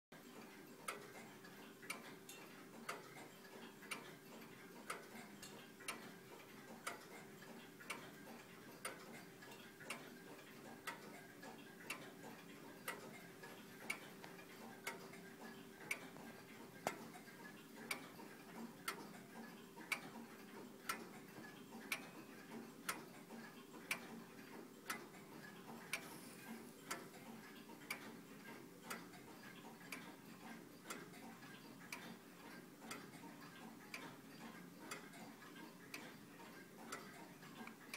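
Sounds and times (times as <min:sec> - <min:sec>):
clock ticking: 0:00.2 - 0:37.9
faint steady hum: 0:00.2 - 0:37.9.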